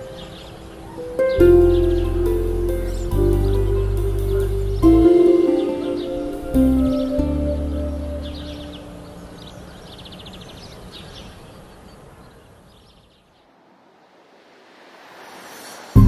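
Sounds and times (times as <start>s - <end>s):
steady hiss: 0.0s - 12.2s, 13.4s - 16.0s
birds chirping in trills: 0.0s - 13.5s.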